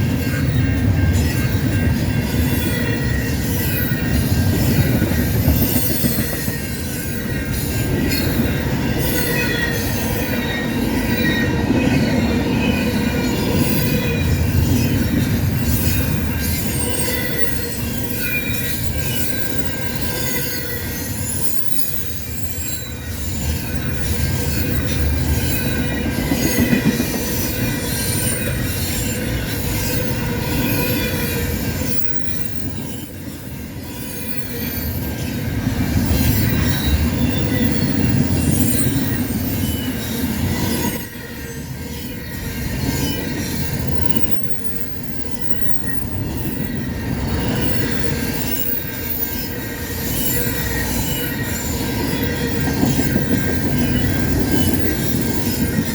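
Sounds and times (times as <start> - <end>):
freight train rumbling past: 0.0 - 55.9
wheels squealing on rails: 0.0 - 55.9.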